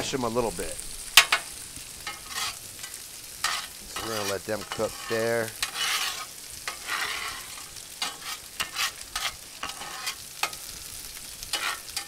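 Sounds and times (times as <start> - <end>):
garlic sizzling in oil: 0.0 - 12.0
metal spatula scraping pan: 1.2 - 12.0.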